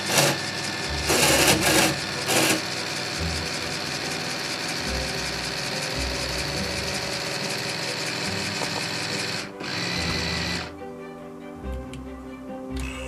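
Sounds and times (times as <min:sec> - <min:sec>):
small electric motor whirring: 0:00.0 - 0:10.7
background music: 0:00.0 - 0:13.0.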